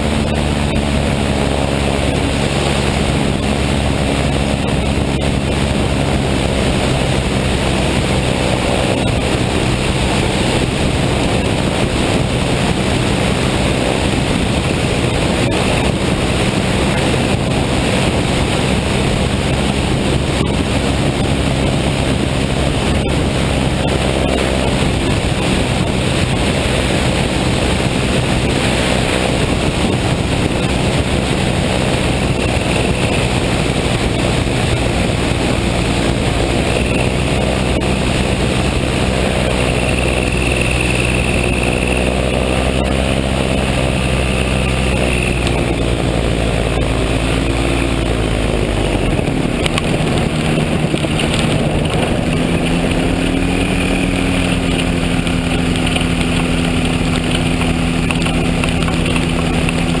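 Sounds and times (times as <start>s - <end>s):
aircraft engine and propeller: 0.0s - 60.0s
wind noise on microphone: 0.0s - 60.0s.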